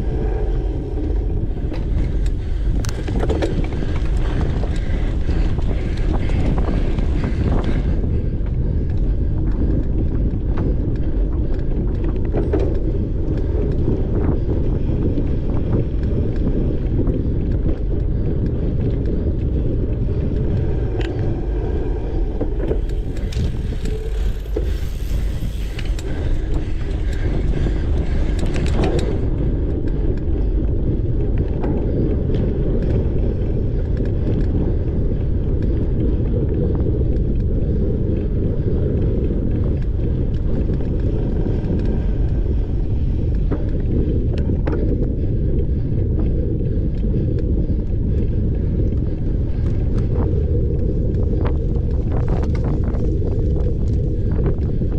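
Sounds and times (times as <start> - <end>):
bike clicks and rattles: 0.0 - 54.9
bike tyres rumbling over dirt: 0.0 - 54.9
wind buffeting microphone: 0.0 - 54.9.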